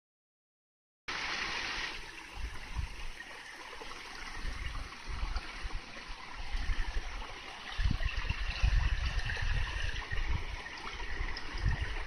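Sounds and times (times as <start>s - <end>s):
brook babbling over stones: 1.1s - 12.0s.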